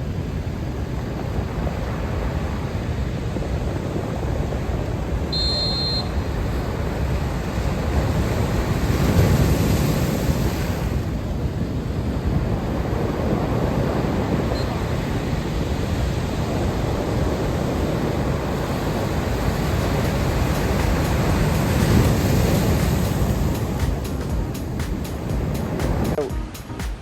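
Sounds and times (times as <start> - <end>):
wind buffeting microphone: 0.0 - 5.4, 6.1 - 26.1
ocean surf washing: 0.0 - 27.0.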